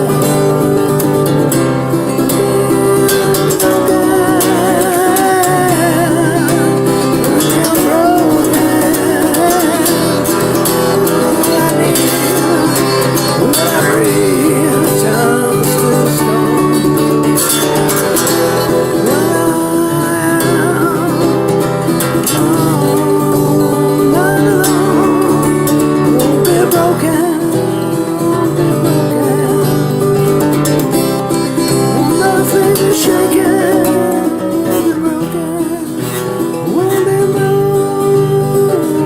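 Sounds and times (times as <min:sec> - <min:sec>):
live band with guitar: 0:00.0 - 0:39.0
person singing: 0:00.0 - 0:39.0.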